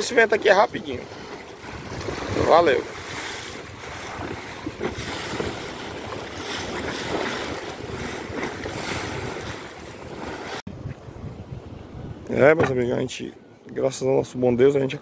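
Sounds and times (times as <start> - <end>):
waves splashing at bow: 0.0 - 13.2
wind buffeting microphone: 0.0 - 13.2
water rushing along hull: 0.0 - 15.0.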